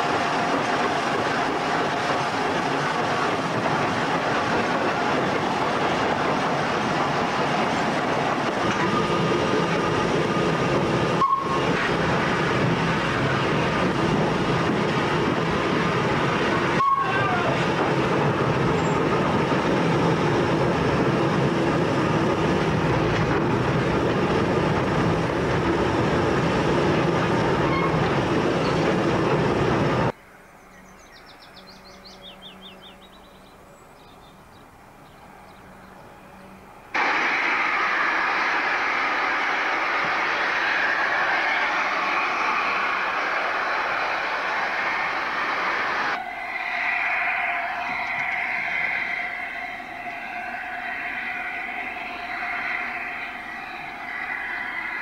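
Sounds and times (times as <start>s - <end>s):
train wheels rumbling and rattling: 0.0s - 30.2s, 34.3s - 55.0s.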